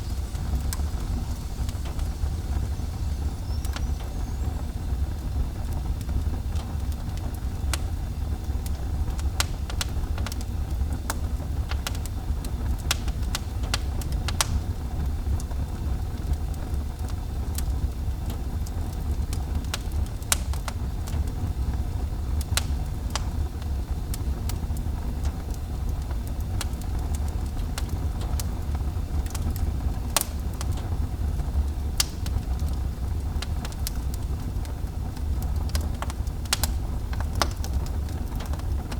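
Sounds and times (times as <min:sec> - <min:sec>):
fire crackling and popping: 0:00.0 - 0:38.9
fire low rumble: 0:00.0 - 0:38.9.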